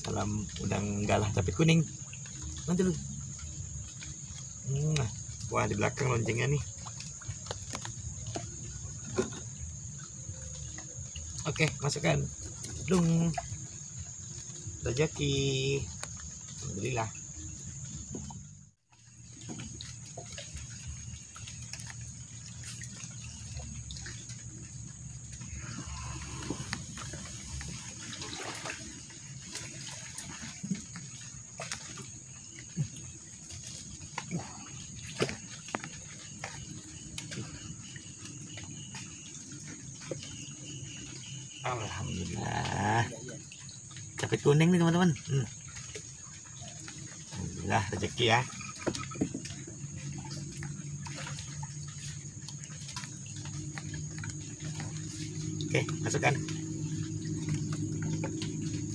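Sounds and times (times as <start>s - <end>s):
river water trickling and lapping: 0.0s - 58.9s.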